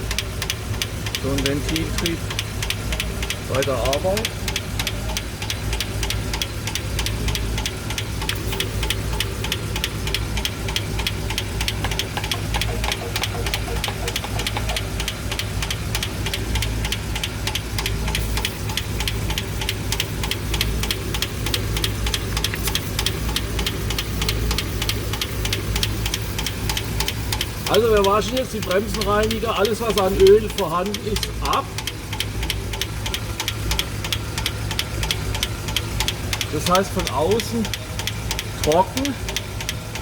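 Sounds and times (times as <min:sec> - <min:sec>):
engine low hum: 0:00.0 - 0:40.0
engine valve train ticking: 0:00.0 - 0:40.0.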